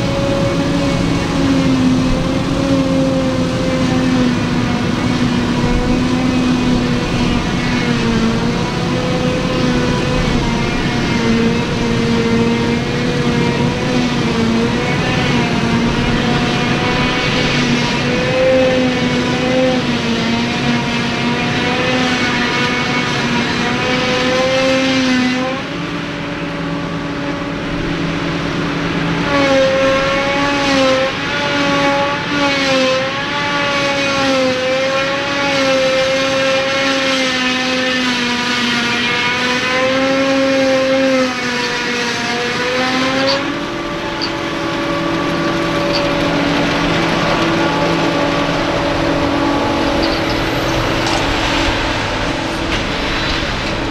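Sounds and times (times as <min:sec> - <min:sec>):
forage harvester machine whine: 0:00.0 - 0:53.9.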